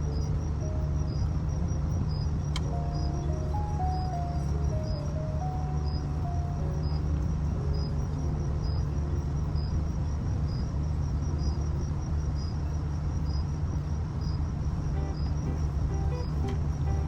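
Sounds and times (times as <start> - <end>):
cricket chirping: 0.0 - 17.0
steady low rumble: 0.0 - 17.0.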